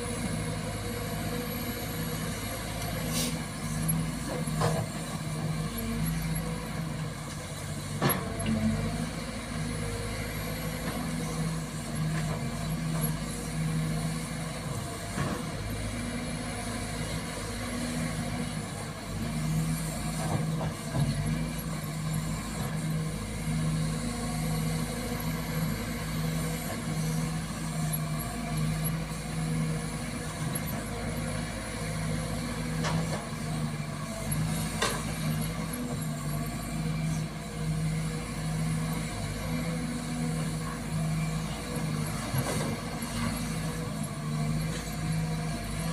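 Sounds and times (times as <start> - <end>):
excavator diesel engine: 0.0 - 45.9.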